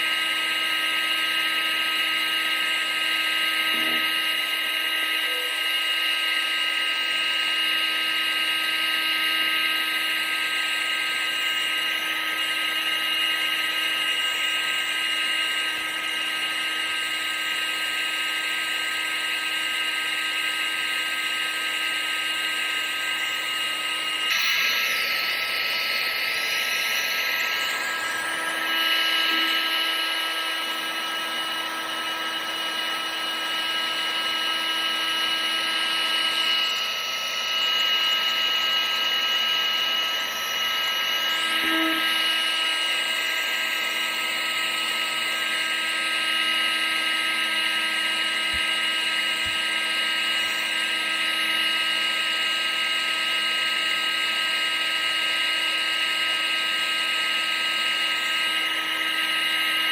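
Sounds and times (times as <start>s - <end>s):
appliance motor whine: 0.0s - 59.9s.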